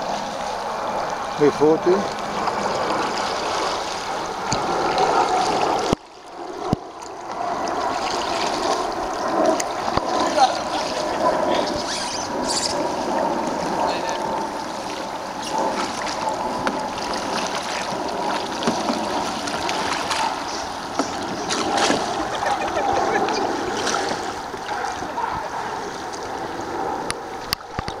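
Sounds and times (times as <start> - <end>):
moving water wash: 0.0 - 28.0
paddles splashing in water: 0.0 - 28.0.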